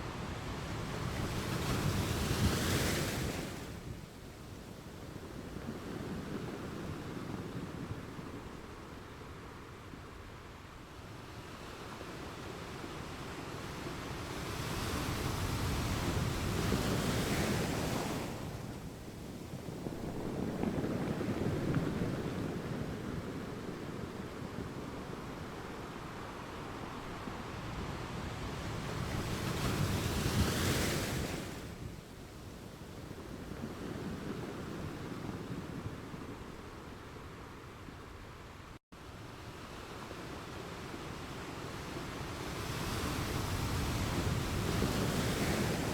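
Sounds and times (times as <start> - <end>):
ocean waves washing ashore: 0.0 - 45.9.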